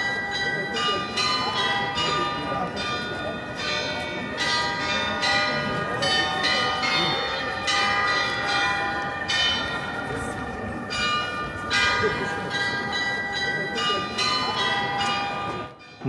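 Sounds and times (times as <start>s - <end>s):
tower bells playing a tune: 0.0s - 16.0s.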